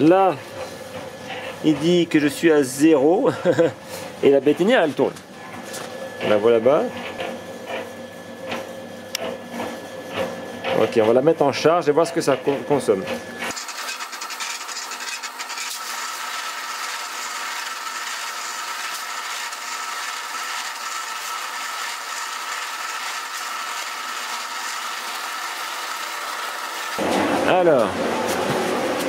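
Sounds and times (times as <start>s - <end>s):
concrete mixer running: 0.0s - 29.0s.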